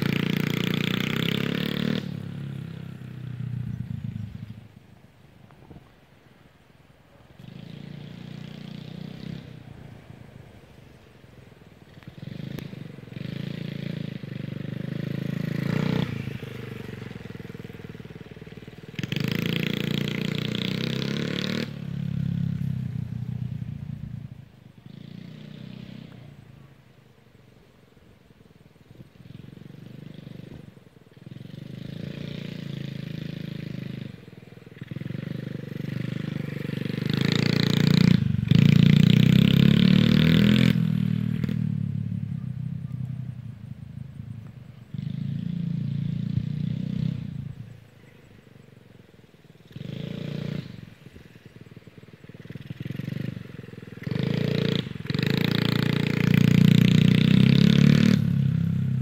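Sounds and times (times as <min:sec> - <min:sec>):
small motorbike engine passing: 0:00.0 - 0:05.9, 0:07.1 - 0:59.0.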